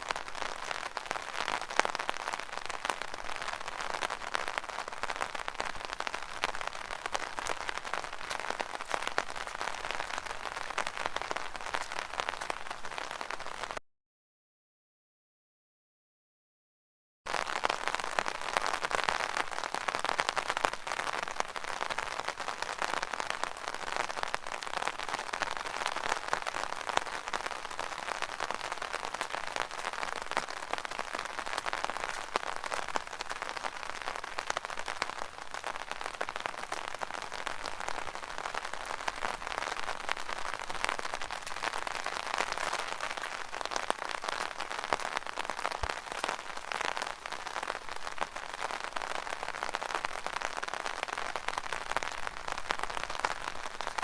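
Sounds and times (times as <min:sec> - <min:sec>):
rain pattering on umbrella: 0:00.0 - 0:13.8, 0:17.3 - 0:54.0.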